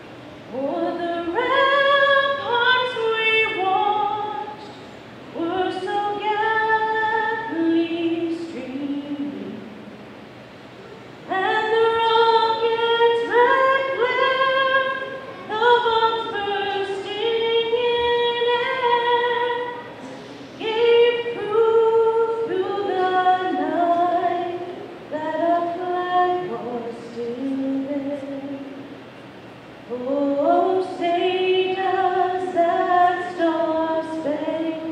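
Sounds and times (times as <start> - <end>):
woman singing unaccompanied: 0.4 - 10.0, 11.3 - 20.0, 20.6 - 28.9, 29.8 - 34.9.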